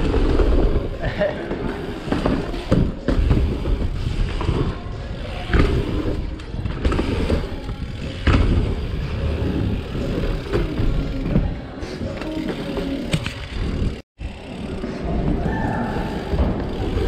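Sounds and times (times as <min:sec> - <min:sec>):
bike tyres and frame rattling: 0:00.0 - 0:17.0.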